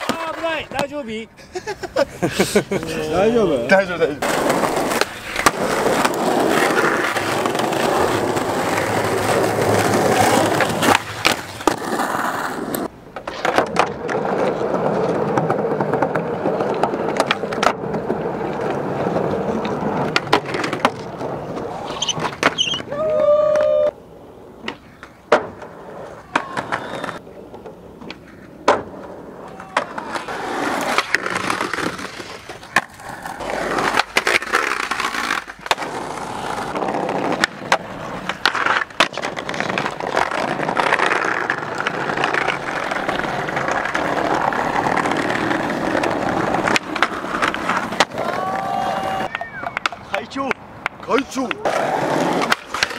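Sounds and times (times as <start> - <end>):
skateboard grinding along ledges: 0.0 - 1.2, 1.9 - 52.9
skateboard wheels rolling on asphalt: 0.0 - 52.9
skateboard tail popping clacks: 4.2 - 23.9, 24.6 - 52.9.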